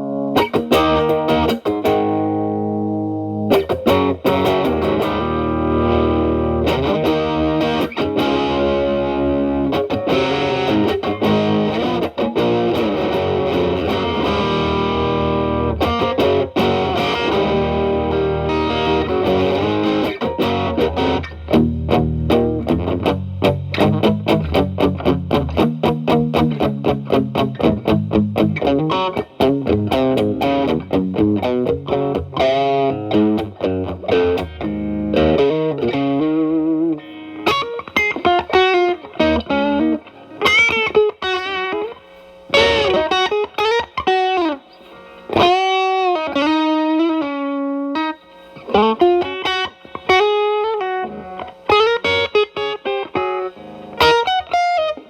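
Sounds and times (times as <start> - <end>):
electric guitar lead with bends: 0.0 - 55.0
overdriven electric guitar strumming: 0.0 - 55.0.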